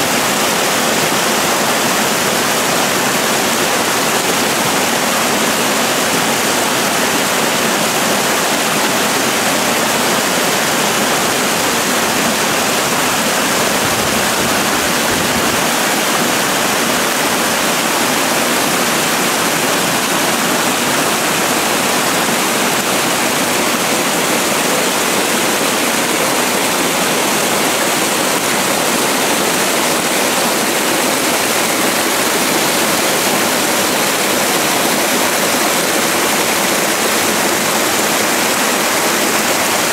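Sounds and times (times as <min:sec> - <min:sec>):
water pouring down rocky cascade: 0:00.0 - 0:39.9.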